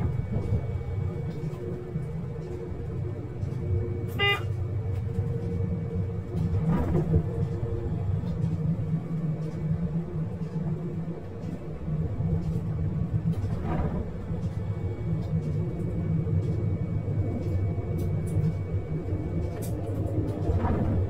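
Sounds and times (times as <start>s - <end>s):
railcar rumbling: 0.0s - 21.0s.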